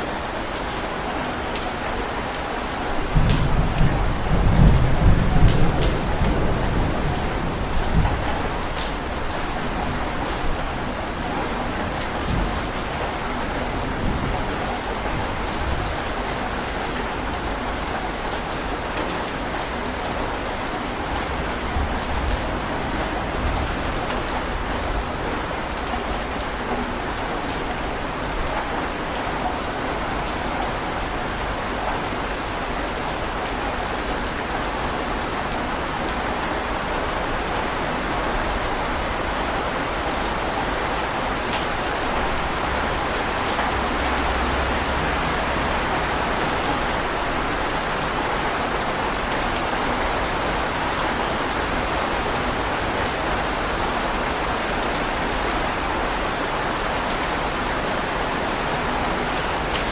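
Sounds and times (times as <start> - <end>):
heavy rain falling: 0.0 - 59.9
raindrops pattering: 0.0 - 59.9.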